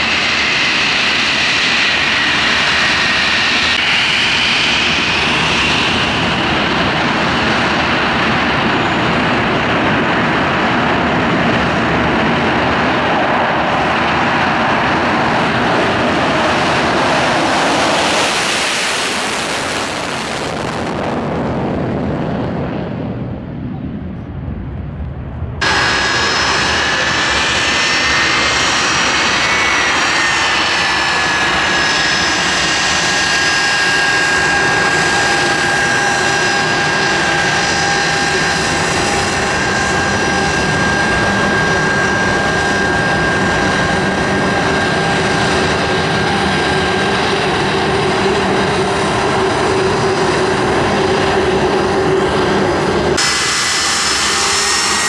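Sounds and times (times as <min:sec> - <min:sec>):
jet engine roar and whine: 0:00.0 - 0:55.0.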